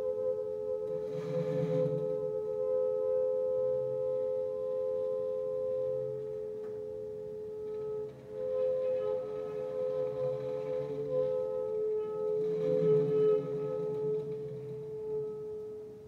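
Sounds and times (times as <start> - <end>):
saxophone drone: 0.0 - 16.0.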